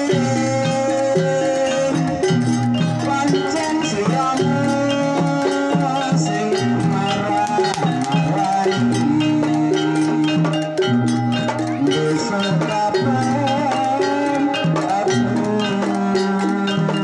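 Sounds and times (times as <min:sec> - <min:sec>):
gamelan ensemble playing: 0:00.0 - 0:17.0.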